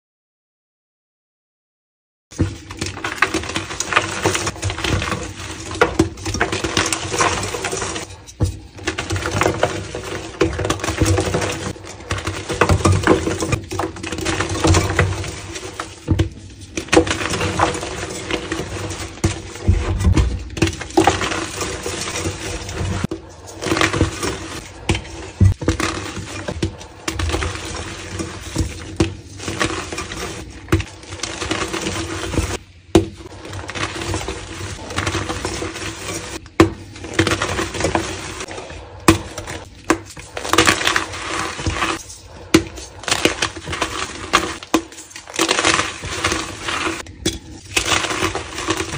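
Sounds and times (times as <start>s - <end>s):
chalk crushed and crumbled by hand: 2.4s - 48.9s.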